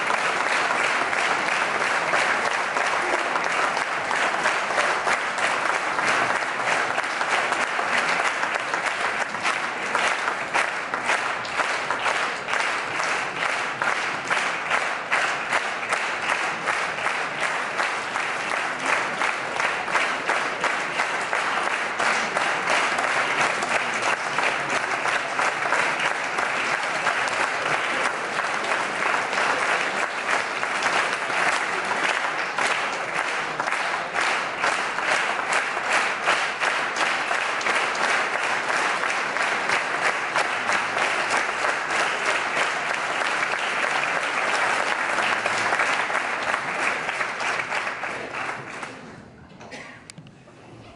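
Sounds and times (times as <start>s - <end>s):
audience applauding: 0.0s - 49.8s.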